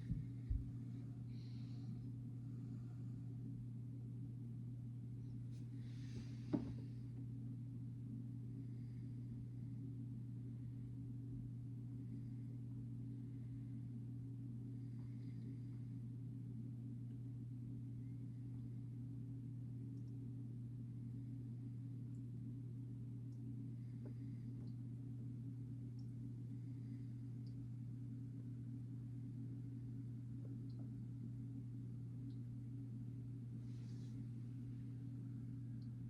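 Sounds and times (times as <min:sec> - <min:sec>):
coffee maker electrical hum: 0:00.0 - 0:36.0.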